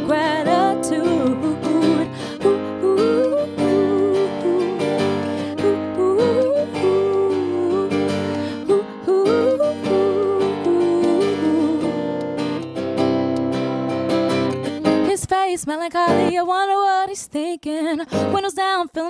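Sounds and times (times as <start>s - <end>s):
acoustic guitar strumming: 0.0s - 16.3s, 18.1s - 18.5s
woman singing: 0.0s - 19.0s.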